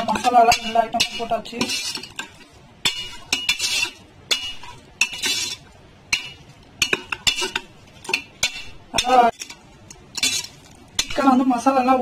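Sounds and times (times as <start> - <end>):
metal spoon scraping pot: 0.0 - 11.3.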